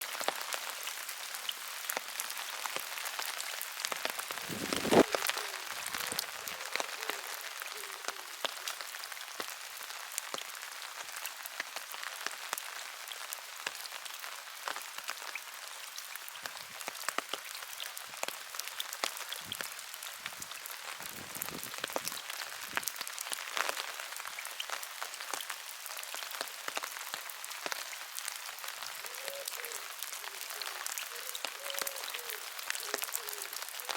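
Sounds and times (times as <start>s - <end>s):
rain falling on water: 0.0s - 33.9s.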